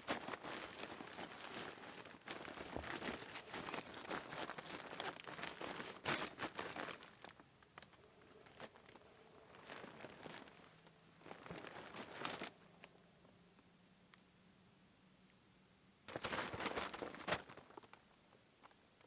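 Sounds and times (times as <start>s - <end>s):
crinkling and rustling: 0.0s - 13.0s, 16.1s - 19.0s.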